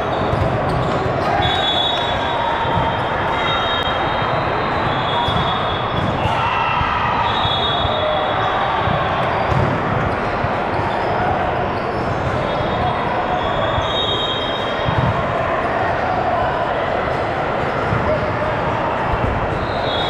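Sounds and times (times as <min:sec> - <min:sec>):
volleyballs hit and bouncing: 0:00.0 - 0:14.0, 0:14.7 - 0:16.2, 0:17.0 - 0:19.8
din of many voices: 0:00.0 - 0:20.0.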